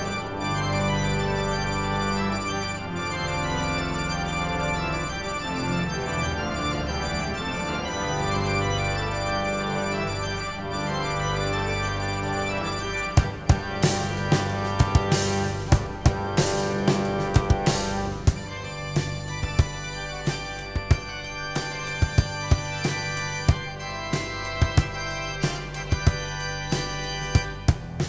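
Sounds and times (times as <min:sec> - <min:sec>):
organ chords from vinyl record: 0:00.0 - 0:28.0.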